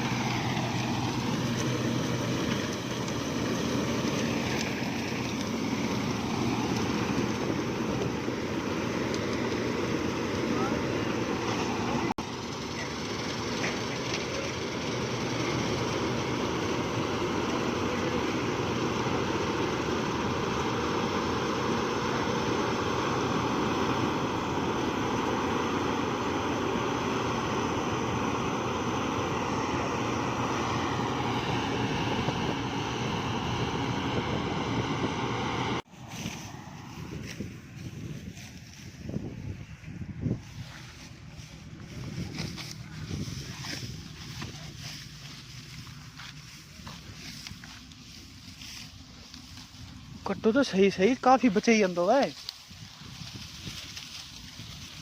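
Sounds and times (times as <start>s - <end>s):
farm machinery engine drone: 0.0s - 55.0s.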